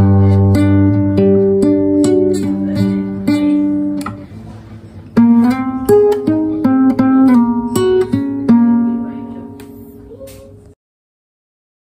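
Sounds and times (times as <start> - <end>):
acoustic guitar notes plucked: 0.0 - 10.7.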